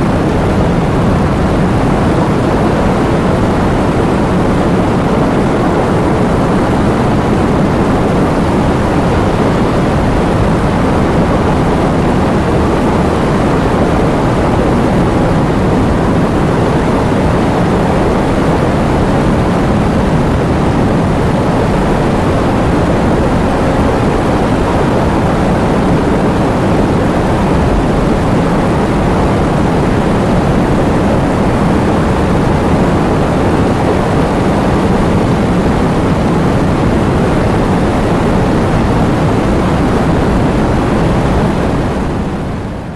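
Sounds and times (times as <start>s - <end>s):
heavy rain with wind: 0.0s - 42.9s.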